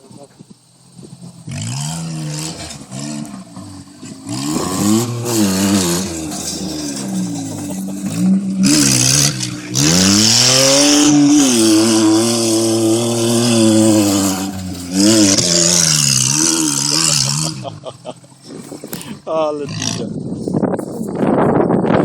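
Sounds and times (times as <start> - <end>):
go-kart engine revving: 0.0 - 20.6.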